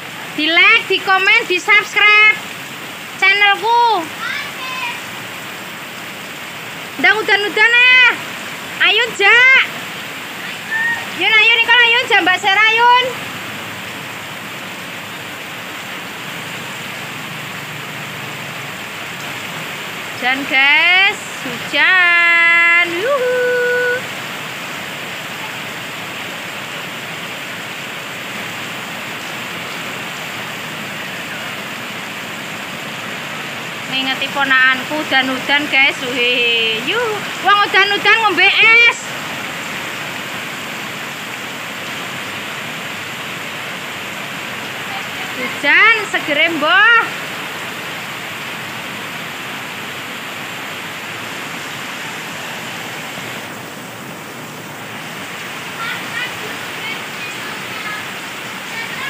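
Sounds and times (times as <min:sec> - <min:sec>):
heavy rain on paving: 0:00.0 - 0:59.0.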